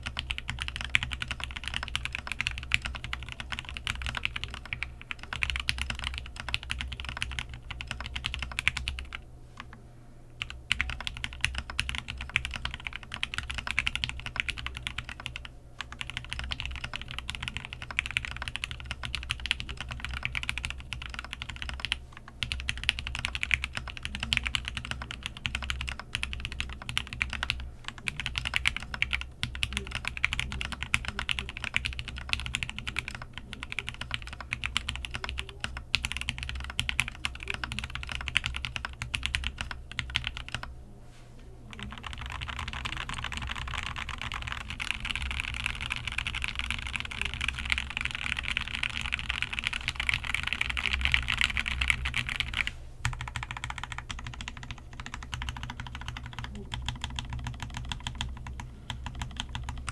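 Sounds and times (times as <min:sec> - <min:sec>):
fast typing on mechanical keyboard: 0:00.0 - 0:09.7, 0:10.4 - 0:40.7, 0:41.7 - 0:59.9.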